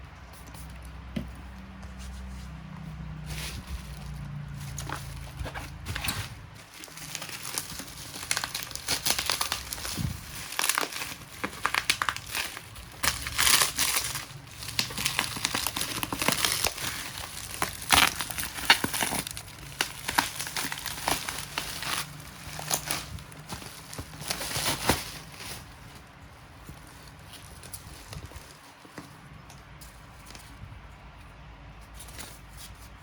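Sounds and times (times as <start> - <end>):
plastic wrap and paper crinkling: 3.0 - 30.6.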